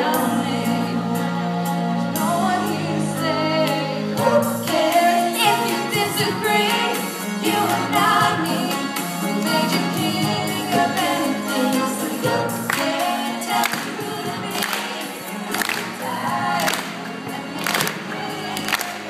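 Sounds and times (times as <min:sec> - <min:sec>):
voices singing a song: 0:00.0 - 0:19.0.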